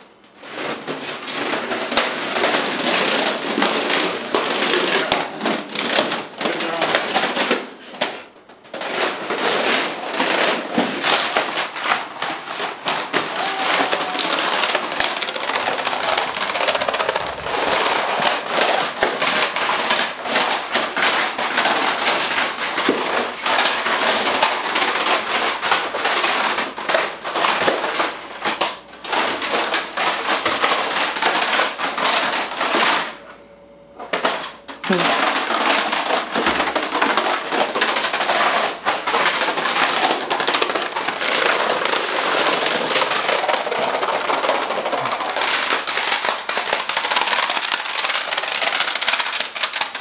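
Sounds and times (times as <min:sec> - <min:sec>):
plastic cases clattering on tile floor: 0:00.0 - 0:33.2, 0:34.0 - 0:50.0.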